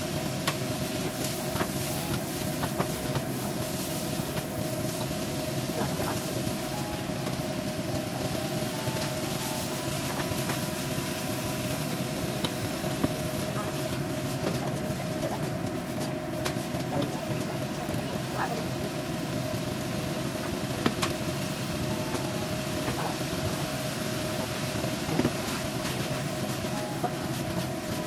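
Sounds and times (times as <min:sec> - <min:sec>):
food sizzling in a wok: 0:00.0 - 0:28.0
steady hum: 0:00.0 - 0:28.0.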